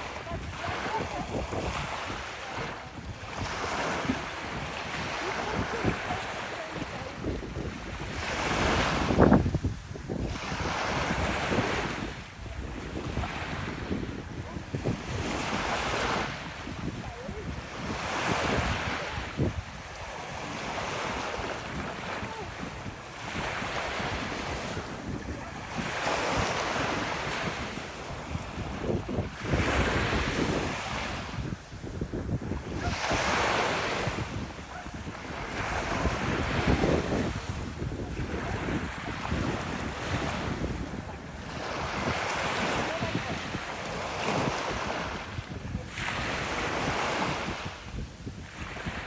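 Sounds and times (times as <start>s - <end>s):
ocean waves breaking on beach: 0.0s - 49.0s
wind buffeting microphone: 0.0s - 49.0s.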